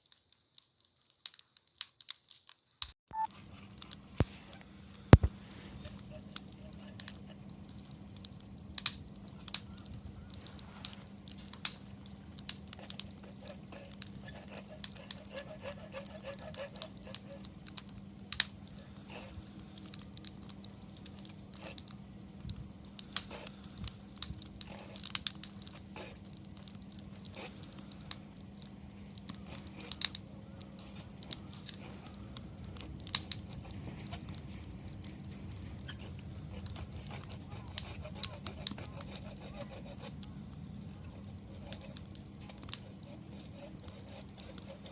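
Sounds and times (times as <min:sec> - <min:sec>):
campfire crackling: 0:00.0 - 0:44.9
faint low hum: 0:03.2 - 0:44.9.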